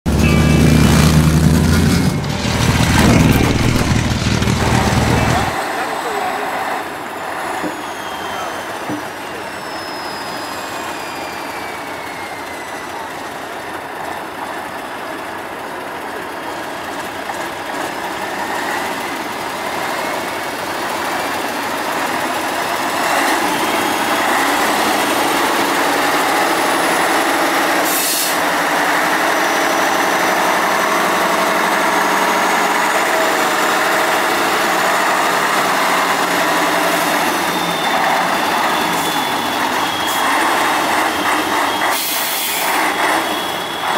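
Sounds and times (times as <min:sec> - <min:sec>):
diesel truck engine running: 0:00.0 - 0:08.0, 0:11.0 - 0:43.9.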